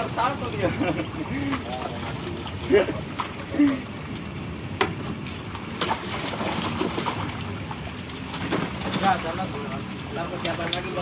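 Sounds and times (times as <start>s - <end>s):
fish thrashing in water: 0.0s - 11.0s
sharp water splashes: 0.0s - 11.0s.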